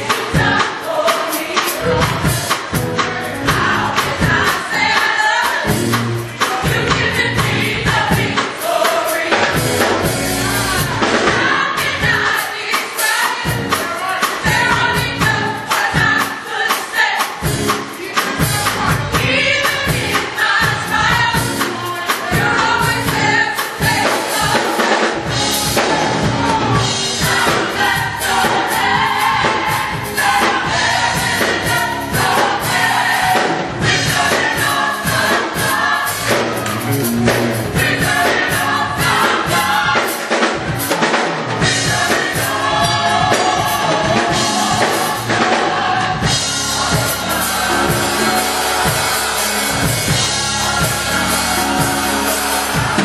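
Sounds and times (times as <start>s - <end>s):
band accompaniment: 0.0s - 53.0s
drums keeping steady beat: 0.0s - 53.0s
gospel choir singing: 0.0s - 53.0s.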